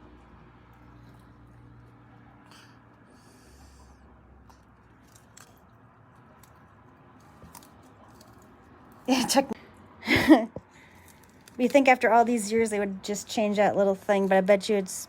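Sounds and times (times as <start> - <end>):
tortoise chewing leaves: 0.0 - 10.0, 10.7 - 15.0.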